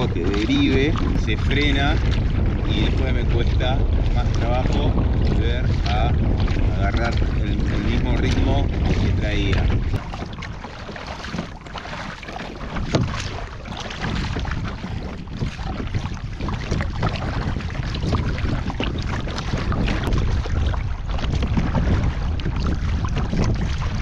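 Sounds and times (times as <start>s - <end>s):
kayak paddle splashing: 0.0s - 24.0s
water slapping against hull: 0.0s - 24.0s
wind on microphone: 0.0s - 24.0s.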